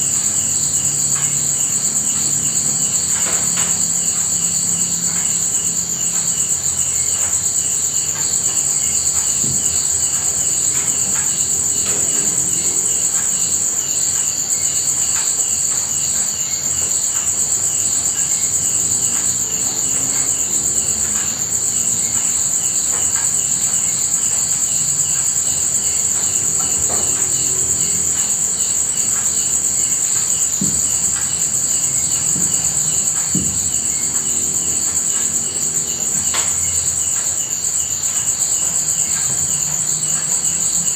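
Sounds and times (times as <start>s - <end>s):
night insects trilling: 0.0s - 40.9s.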